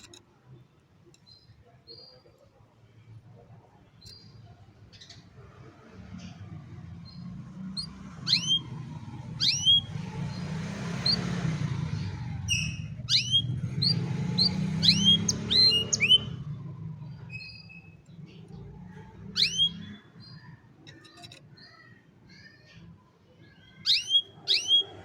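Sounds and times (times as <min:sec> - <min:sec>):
canary chirping: 0:00.0 - 0:25.0.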